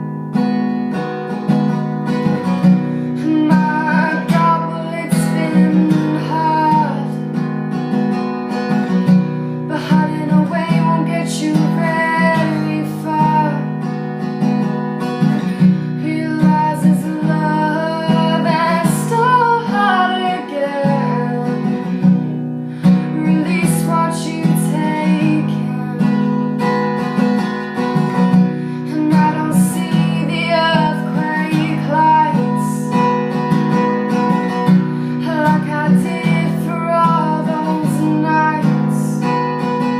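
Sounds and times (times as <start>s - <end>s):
strummed acoustic guitar: 0.0s - 39.9s
woman singing: 2.2s - 7.5s, 9.6s - 14.0s, 15.4s - 26.8s, 27.8s - 39.9s.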